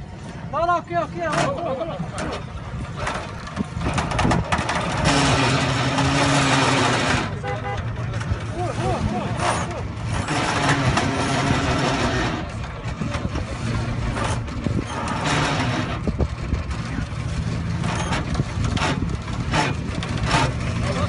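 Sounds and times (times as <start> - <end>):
vehicle engine running: 1.2 - 21.0.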